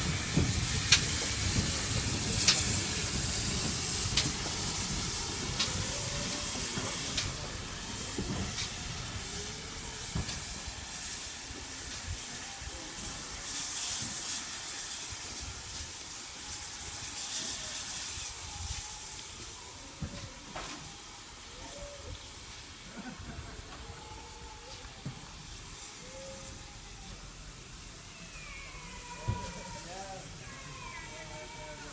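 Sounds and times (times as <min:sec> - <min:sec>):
steam hissing: 0:00.0 - 0:31.9.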